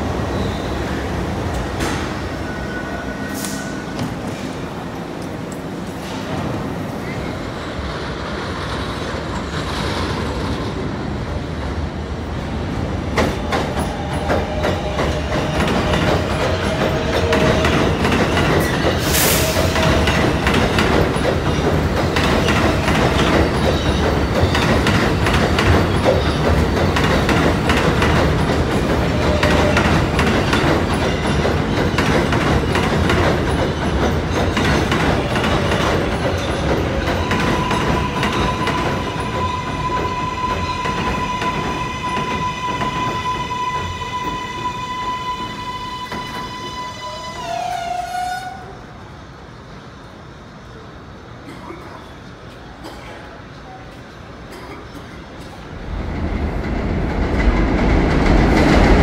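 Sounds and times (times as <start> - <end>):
subway train passing: 0.0 - 59.0.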